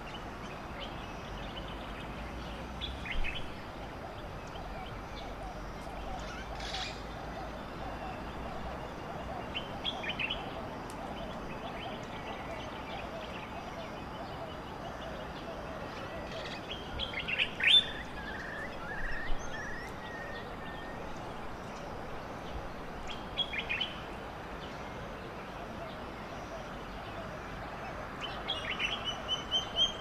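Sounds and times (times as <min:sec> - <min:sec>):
outdoor ambience hiss: 0:00.0 - 0:30.0.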